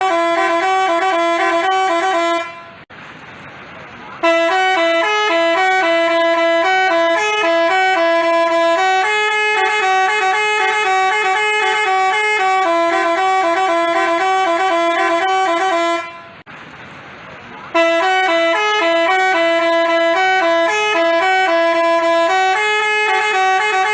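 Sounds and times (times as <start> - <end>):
horn playing a tune: 0.0 - 2.8, 4.2 - 16.4, 17.8 - 23.9.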